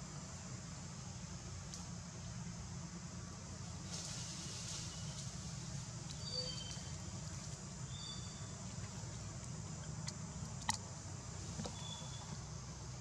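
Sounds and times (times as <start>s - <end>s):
high insect-like hiss: 0.0s - 13.0s.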